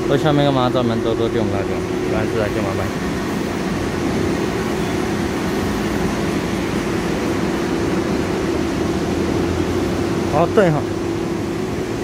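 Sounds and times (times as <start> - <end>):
train humming at platform: 0.0 - 12.0.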